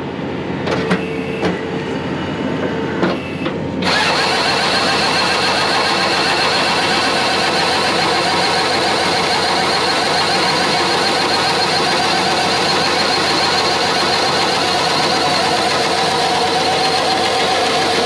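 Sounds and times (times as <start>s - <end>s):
diesel engine running: 0.0s - 18.0s
mechanical clatter and whine: 0.0s - 18.0s.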